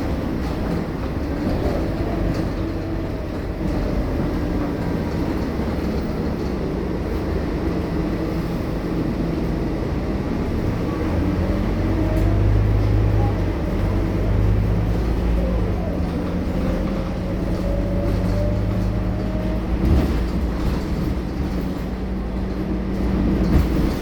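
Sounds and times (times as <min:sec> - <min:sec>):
bus diesel engine driving: 0:00.0 - 0:24.0.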